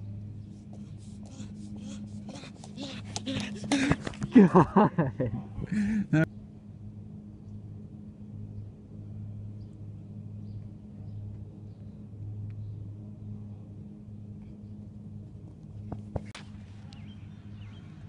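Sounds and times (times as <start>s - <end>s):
distant engine hum: 0.0s - 18.0s.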